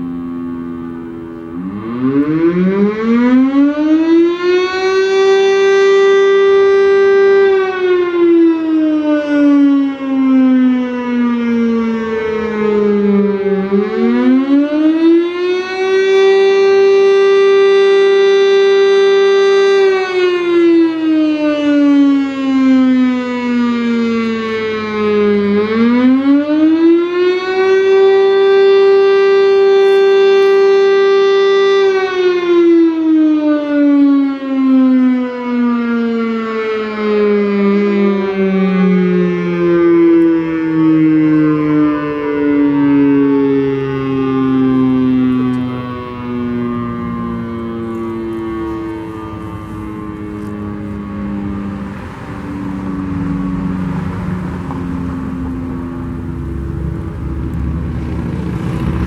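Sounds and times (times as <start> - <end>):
outdoor warning siren wailing: 0.0 - 59.0.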